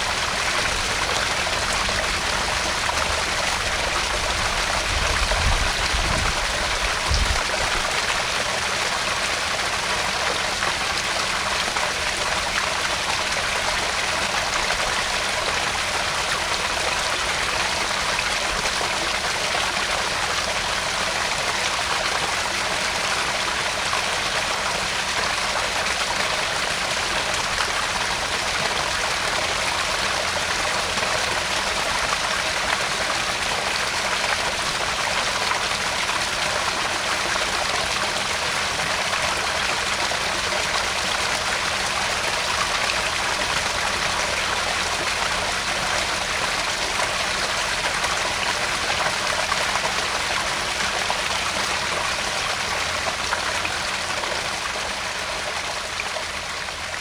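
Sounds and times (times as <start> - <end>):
water trickling into pond: 0.0 - 57.0.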